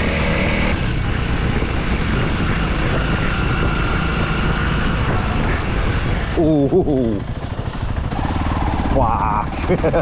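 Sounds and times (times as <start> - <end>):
wind and road noise: 0.0 - 10.0
dirt bike engine running: 0.8 - 10.0.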